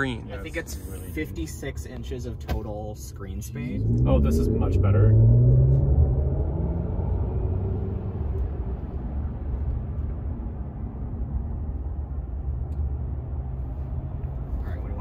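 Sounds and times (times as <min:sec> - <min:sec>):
road and tyre rumble in cabin: 0:00.0 - 0:15.0.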